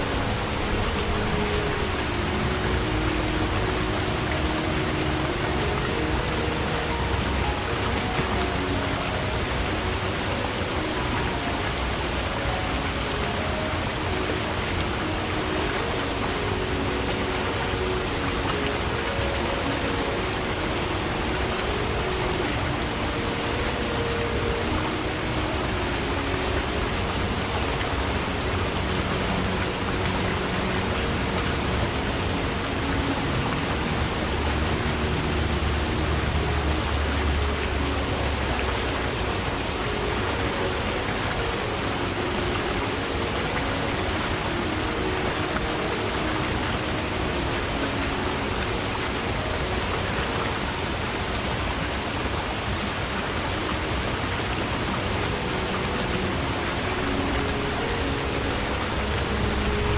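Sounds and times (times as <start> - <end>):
stream water rushing: 0.0 - 59.9
water gurgling: 0.0 - 59.9.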